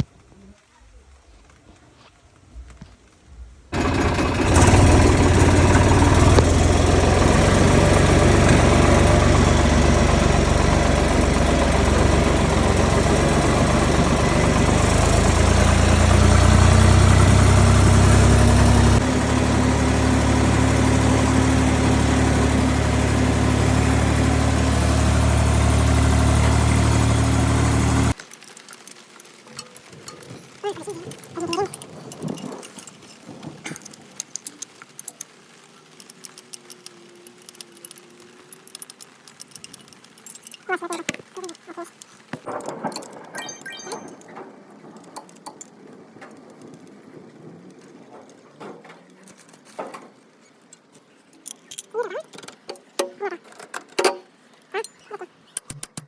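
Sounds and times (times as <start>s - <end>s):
tractor engine running: 3.7s - 56.0s.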